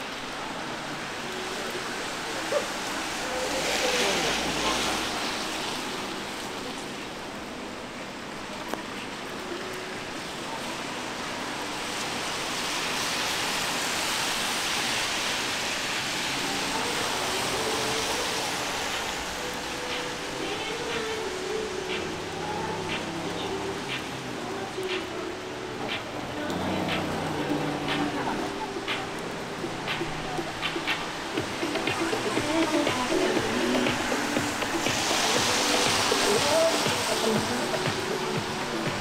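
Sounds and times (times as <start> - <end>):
rain hissing on pavement: 0.0 - 39.0.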